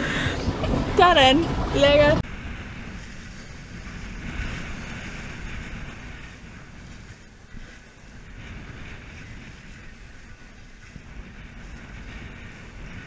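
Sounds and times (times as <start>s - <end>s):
sea water rushing past boat: 0.0s - 13.0s
wind buffeting microphone: 0.0s - 13.0s.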